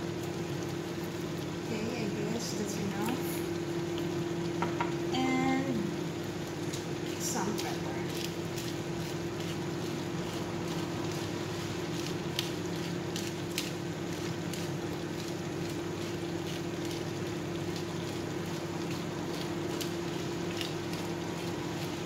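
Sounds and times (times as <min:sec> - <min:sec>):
sauce simmering in a wok: 0:00.0 - 0:22.0.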